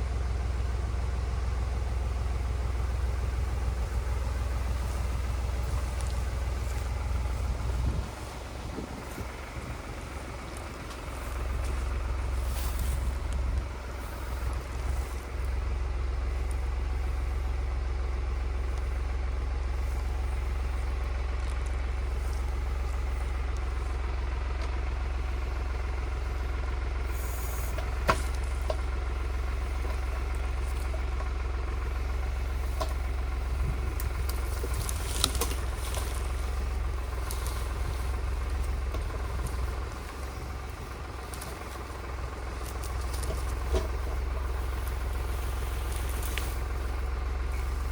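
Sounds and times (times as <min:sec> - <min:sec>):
tractor engine rumbling: 0:00.0 - 0:47.9.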